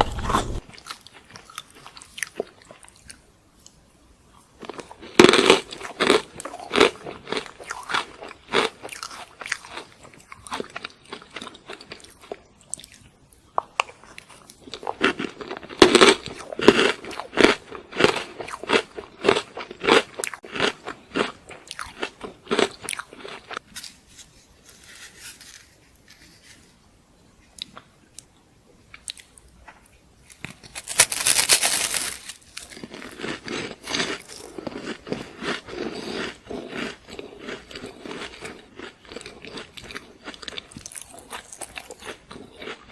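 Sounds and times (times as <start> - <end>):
chewing crunchy food: 0.0 - 3.8, 4.6 - 23.7, 28.9 - 42.9.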